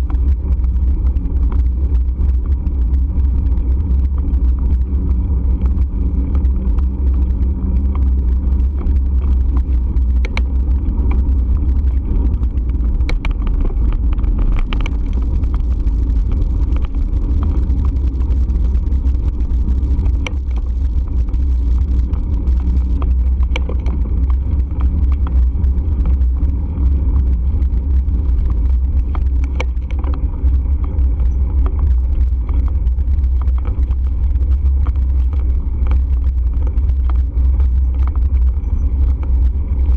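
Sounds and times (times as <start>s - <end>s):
bike riding rumble: 0.0s - 39.9s
sharp clicks and knocks: 0.0s - 39.9s.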